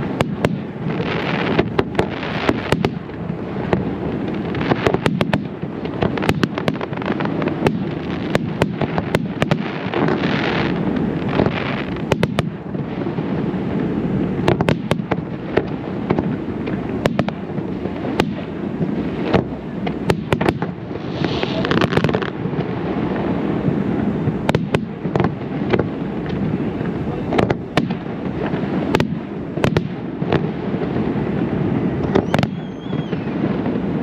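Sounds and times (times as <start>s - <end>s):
echoing firework booms: 0.0s - 34.0s
hissing firework crackle: 0.0s - 34.0s.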